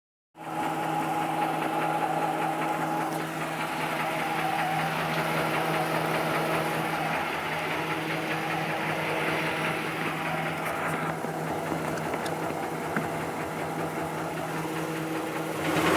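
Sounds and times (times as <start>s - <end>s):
engine running with a knock: 0.4s - 15.9s.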